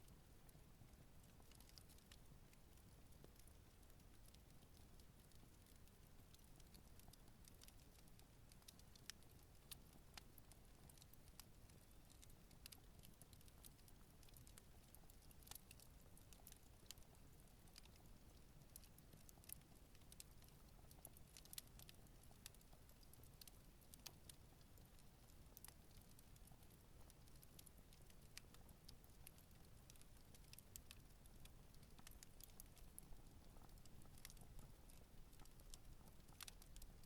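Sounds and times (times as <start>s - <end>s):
campfire crackling: 0.1s - 37.0s.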